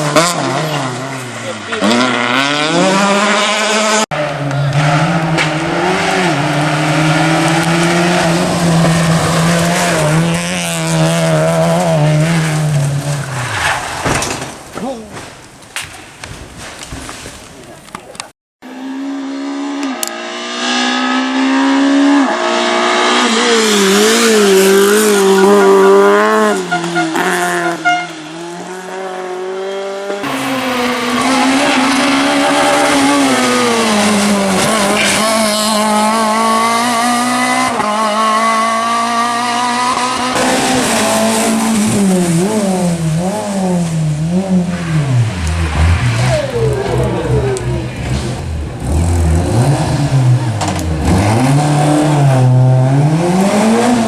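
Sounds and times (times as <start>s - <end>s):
rally car engine driven hard: 0.0s - 54.0s.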